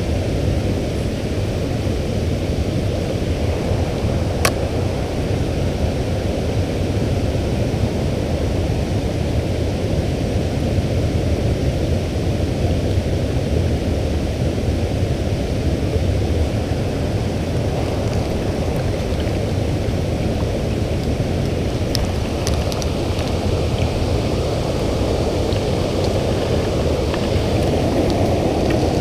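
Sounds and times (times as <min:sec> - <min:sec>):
creek water flowing: 0:00.0 - 0:29.0.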